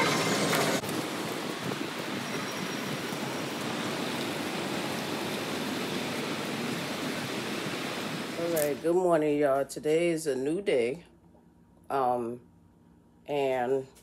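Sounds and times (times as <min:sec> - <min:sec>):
city background hiss: 0:00.0 - 0:14.0.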